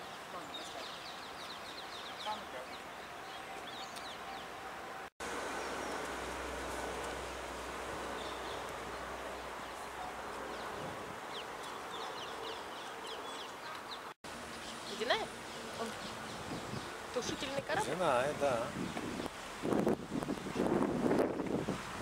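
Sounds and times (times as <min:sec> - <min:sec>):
small birds chirping: 0:00.0 - 0:04.6, 0:08.0 - 0:21.6
outdoor background hiss: 0:00.0 - 0:22.0.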